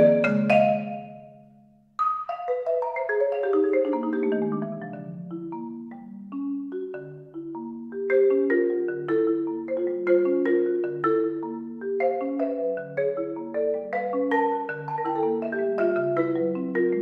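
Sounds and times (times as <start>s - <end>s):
marimba playing: 0.0s - 17.0s.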